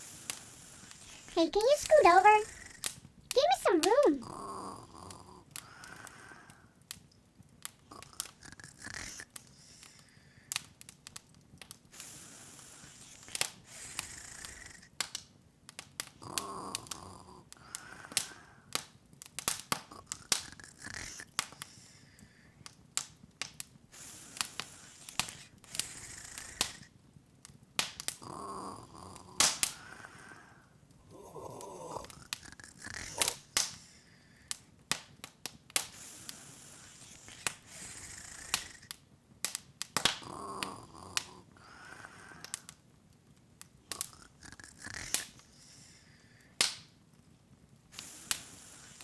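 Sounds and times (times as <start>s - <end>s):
wood fire crackling and popping: 0.1s - 1.2s, 4.2s - 30.3s, 30.9s - 49.0s.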